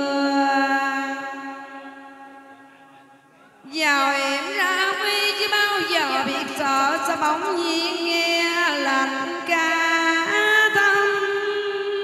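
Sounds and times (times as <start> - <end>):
woman singing into a microphone: 0.0 - 2.5, 3.6 - 12.0.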